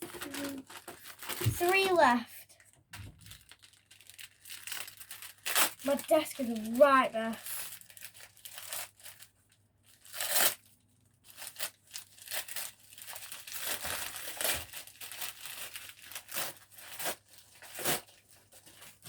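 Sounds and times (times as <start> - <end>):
wrapping tearing: 0.0 - 2.2, 3.2 - 19.0
wrapping rustling and crinkling: 0.0 - 19.0.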